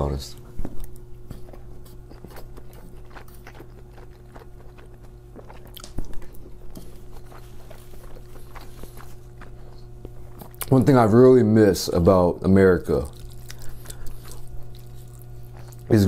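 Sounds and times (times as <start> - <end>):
close chewing with wet clicks: 0.4 - 10.9, 12.9 - 16.0.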